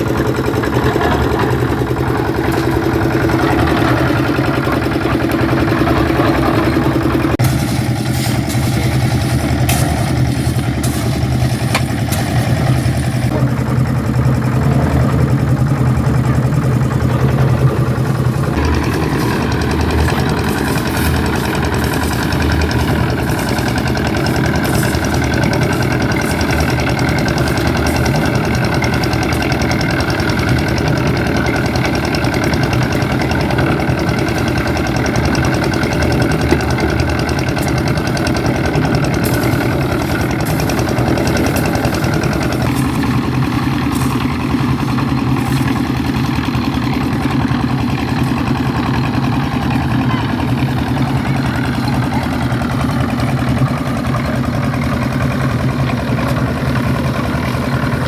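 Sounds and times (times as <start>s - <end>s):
construction machinery engine running: 0.0s - 58.0s
sharp clatter: 0.1s - 13.5s, 14.3s - 58.0s.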